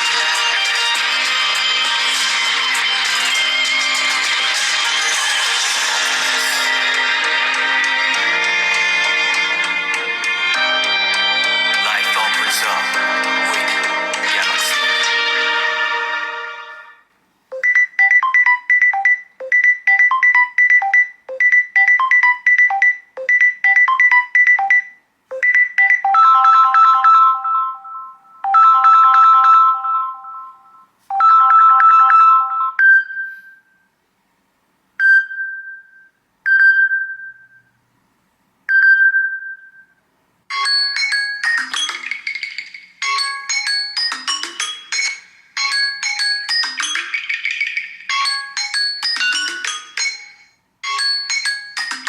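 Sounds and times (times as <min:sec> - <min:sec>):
bright ringtone tune: 0:00.0 - 0:16.8, 0:17.5 - 0:33.8, 0:40.5 - 0:52.0.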